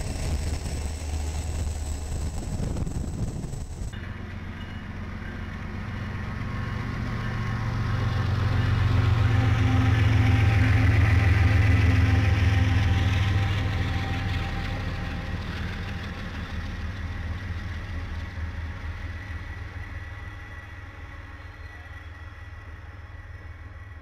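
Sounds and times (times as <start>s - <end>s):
diesel locomotive engine humming: 0.0s - 24.0s.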